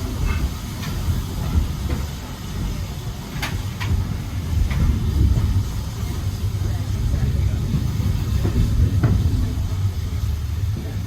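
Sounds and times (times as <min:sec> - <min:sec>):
railway coach rumbling on track: 0:00.0 - 0:11.0.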